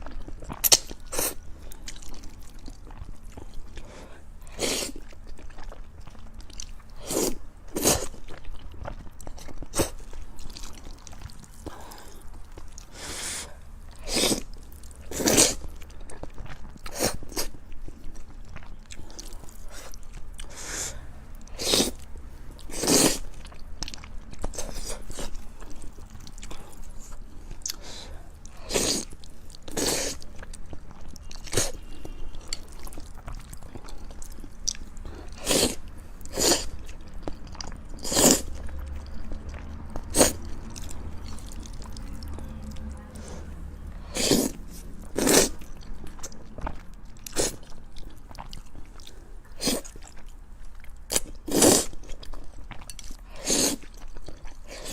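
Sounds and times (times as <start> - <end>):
person chewing soft food: 0.0 - 54.9.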